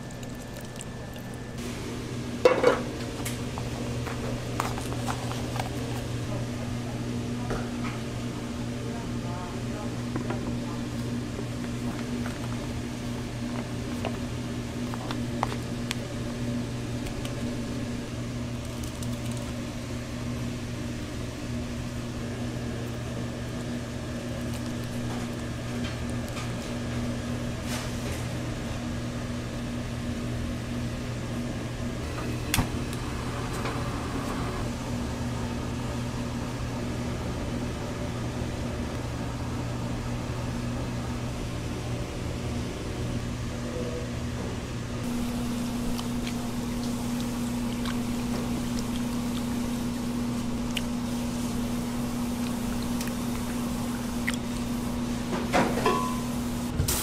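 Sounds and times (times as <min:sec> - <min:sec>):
kitchen machinery humming: 0:00.0 - 0:57.0.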